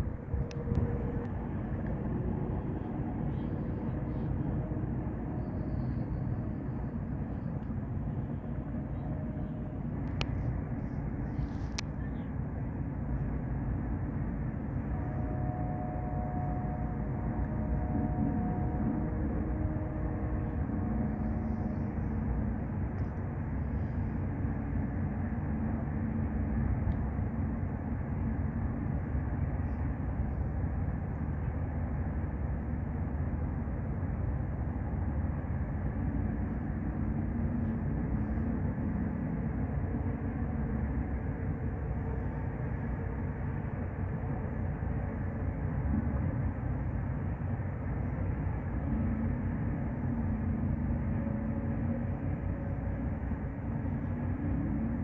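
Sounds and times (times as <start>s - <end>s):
low machinery rumble: 0.0s - 55.0s
wavering hum: 0.0s - 55.0s.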